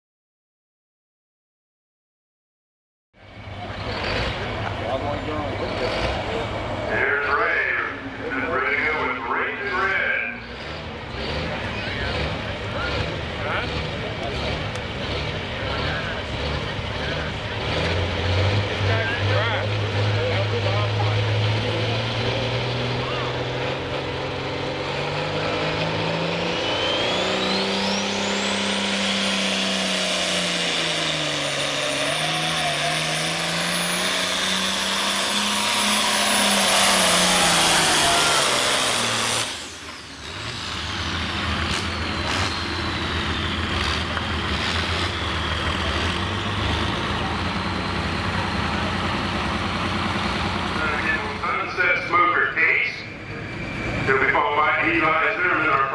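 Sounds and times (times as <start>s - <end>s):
low engine hum: 3.2s - 55.9s
tractor diesel engine under load: 3.2s - 55.9s.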